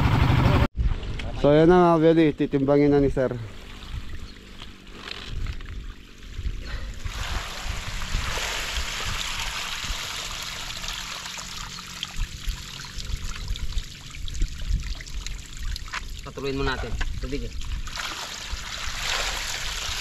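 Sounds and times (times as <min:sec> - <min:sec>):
water splashing and trickling: 0:03.5 - 0:20.0.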